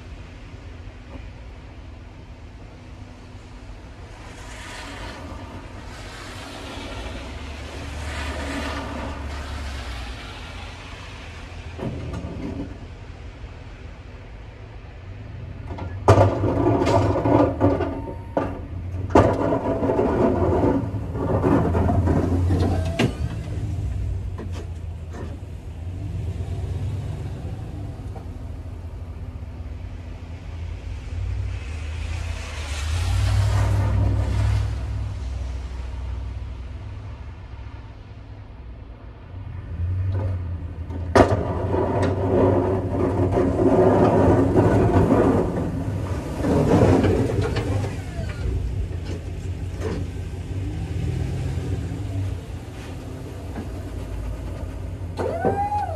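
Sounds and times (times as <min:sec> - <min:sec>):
cars swishing past on wet road: 0:00.0 - 0:55.9
truck engine low rumble: 0:00.0 - 0:55.9
snow plow scraping and clanking: 0:00.2 - 0:38.0, 0:39.5 - 0:55.9.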